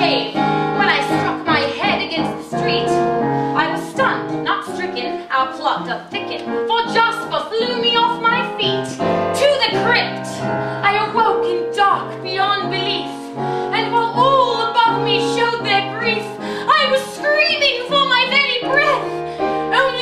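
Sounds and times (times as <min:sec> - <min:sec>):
piano accompaniment: 0:00.0 - 0:20.0.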